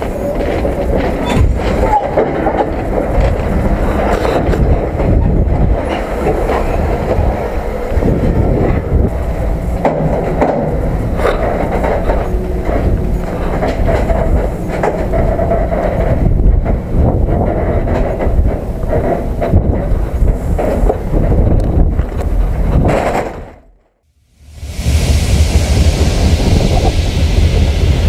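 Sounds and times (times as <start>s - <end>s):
train wheels rumbling on rails: 0.0s - 23.7s, 24.3s - 28.0s.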